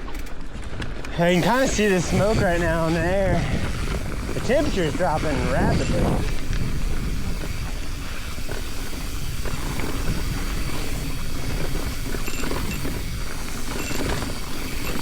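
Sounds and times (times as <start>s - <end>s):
bike clicks and rattles: 0.0s - 15.0s
bike rolling over dirt trail: 0.0s - 15.0s
wind rumble on microphone: 0.0s - 15.0s.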